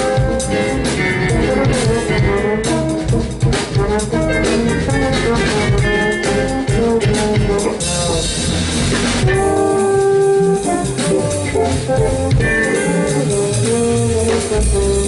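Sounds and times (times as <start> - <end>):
drum kit: 0.0 - 15.0
electric bass: 0.0 - 15.0
electric guitar: 0.0 - 15.0
keyboard: 0.0 - 15.0
trombone: 0.0 - 15.0.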